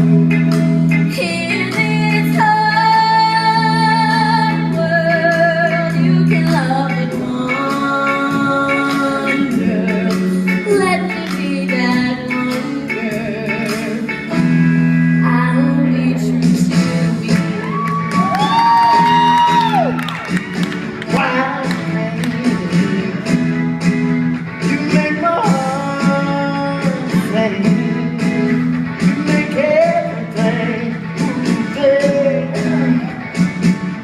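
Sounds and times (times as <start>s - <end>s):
band playing low chords: 0.0s - 34.0s.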